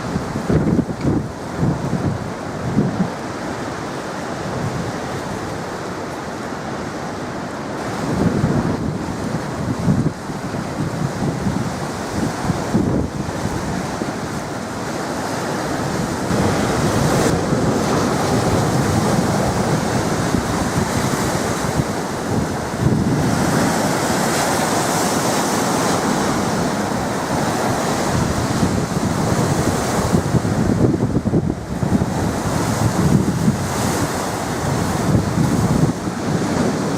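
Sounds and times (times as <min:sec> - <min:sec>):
storm waves breaking: 0:00.0 - 0:36.9
wind buffeting microphone: 0:00.0 - 0:36.9.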